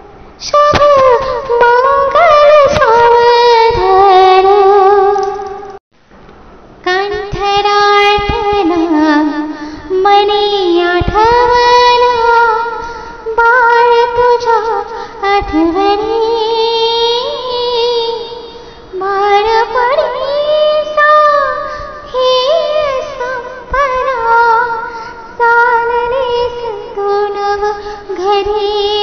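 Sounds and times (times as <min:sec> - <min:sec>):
woman singing: 0:00.4 - 0:05.8, 0:06.8 - 0:29.0.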